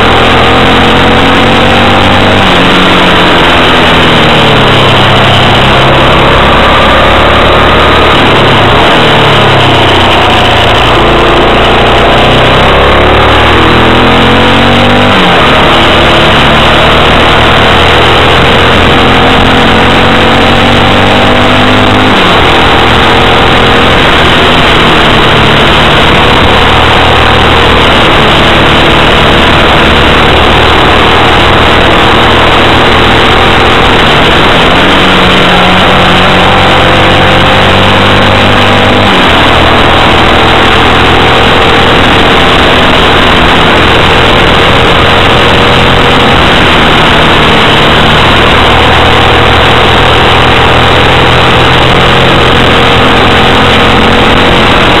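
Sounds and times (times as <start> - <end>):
motorcycle engine shifting gears: 0.0 - 55.0
wind noise on microphone: 0.0 - 55.0.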